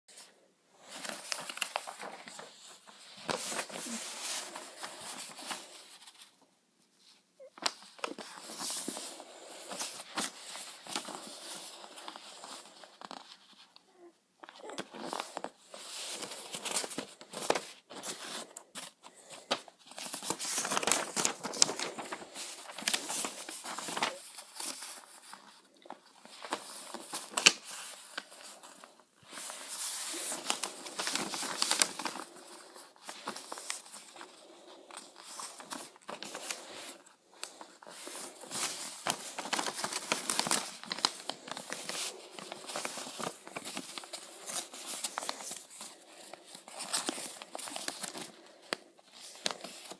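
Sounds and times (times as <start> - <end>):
paper crinkling and rustling: 0.1 - 49.9
paper crackling as creased: 0.8 - 6.3, 7.4 - 49.9.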